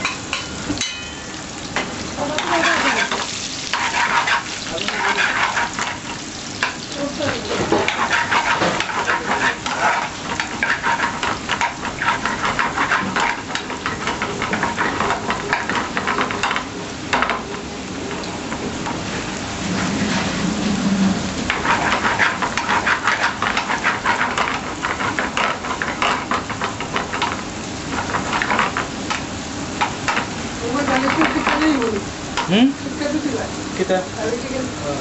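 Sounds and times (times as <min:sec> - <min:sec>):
garlic sizzling in hot oil: 0:00.0 - 0:35.0.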